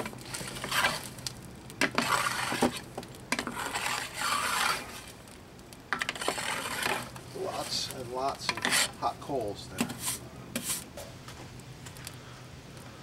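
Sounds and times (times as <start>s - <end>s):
brush sweeping coals: 0.0s - 13.0s
coals clinking: 0.0s - 13.0s.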